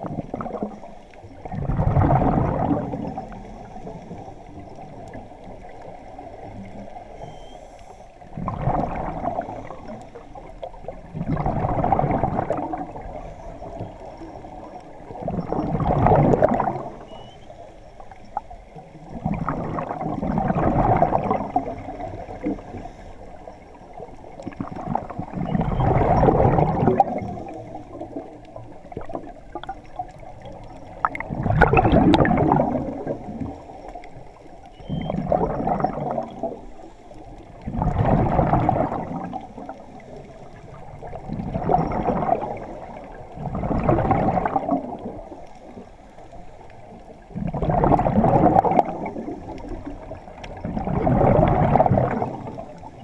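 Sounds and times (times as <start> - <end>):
bubbles gurgling underwater: 0.0 - 7.5, 8.2 - 53.0.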